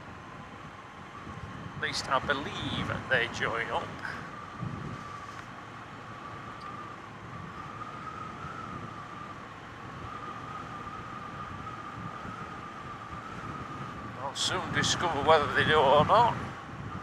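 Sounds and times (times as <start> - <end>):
wind rush: 0.4 - 5.5, 6.1 - 17.0.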